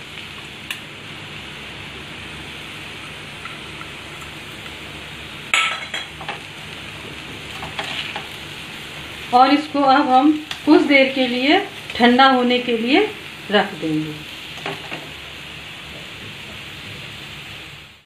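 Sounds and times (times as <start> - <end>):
stuffing sizzling in a pan: 0.0 - 18.0.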